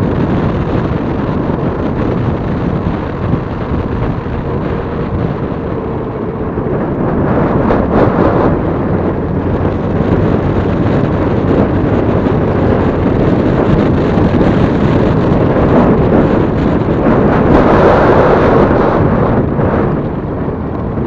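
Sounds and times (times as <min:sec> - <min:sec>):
scooter road and engine noise: 0:00.0 - 0:21.0
wind rushing over microphone: 0:00.0 - 0:21.0.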